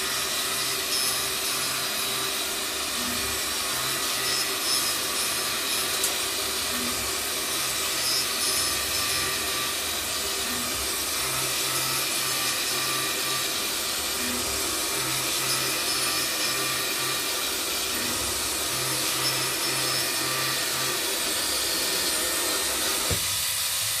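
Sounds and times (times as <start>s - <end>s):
circular blade cutting circuit boards: 0.0s - 24.0s.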